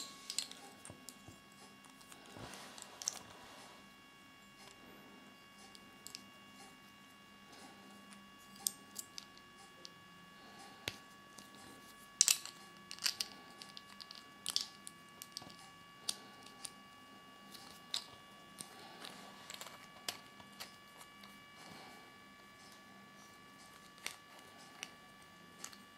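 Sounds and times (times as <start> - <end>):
faint electronic hum: 0.0 - 25.9.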